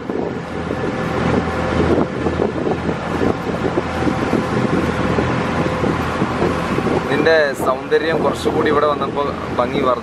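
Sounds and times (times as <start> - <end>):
boat engine running: 0.0 - 10.0
wind buffeting microphone: 0.0 - 10.0.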